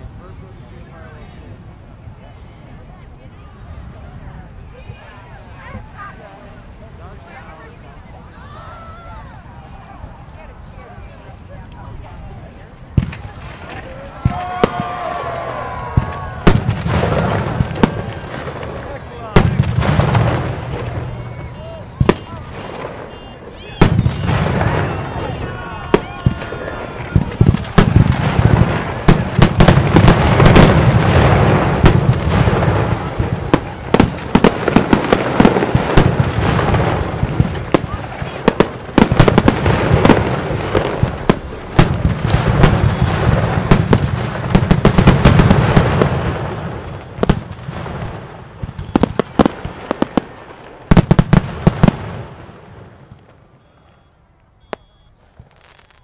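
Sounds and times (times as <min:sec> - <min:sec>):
fireworks booming and crackling: 0:09.0 - 0:56.0.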